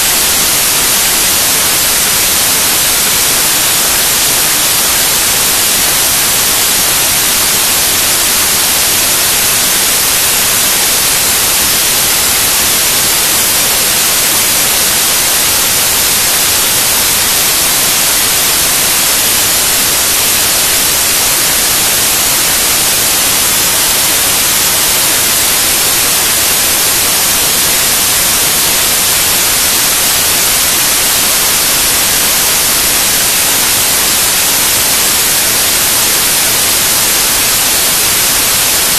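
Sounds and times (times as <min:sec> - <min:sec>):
white noise static: 0:00.0 - 0:38.9.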